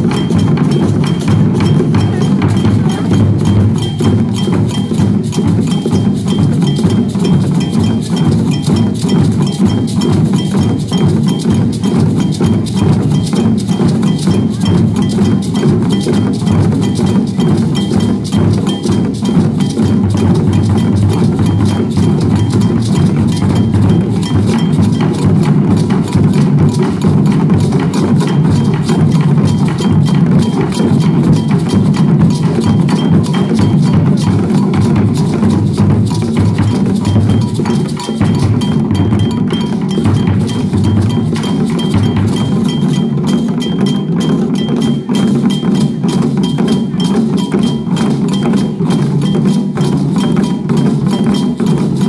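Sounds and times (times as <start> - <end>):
djembe drums playing: 0.0 - 52.0.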